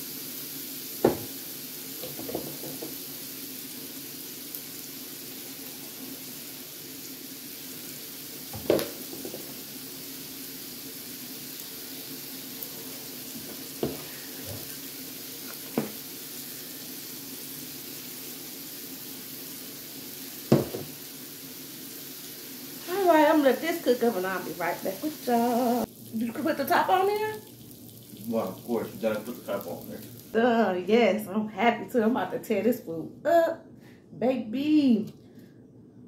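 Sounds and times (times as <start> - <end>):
meat sizzling in a pan: 0.0 - 30.4.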